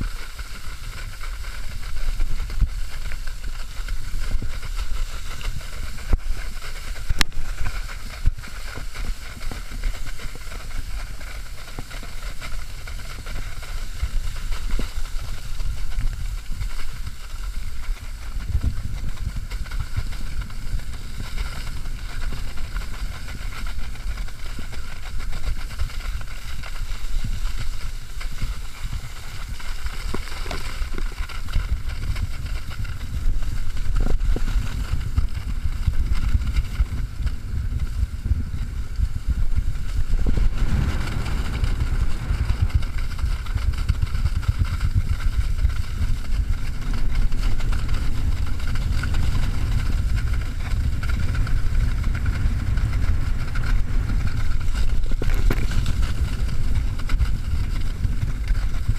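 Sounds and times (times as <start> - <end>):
rush of water and spray: 0.0 - 58.9
wind rumble on microphone: 0.0 - 58.9.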